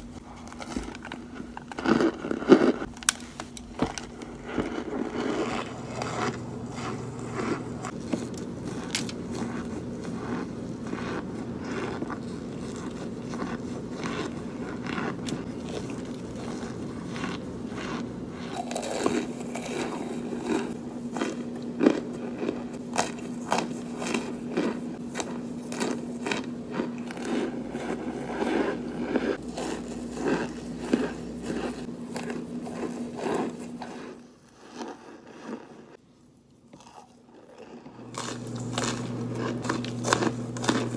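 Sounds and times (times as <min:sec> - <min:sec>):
faint low hum: 0:00.0 - 0:34.7
crisp chewing crunches: 0:00.1 - 0:36.0, 0:36.7 - 0:40.9.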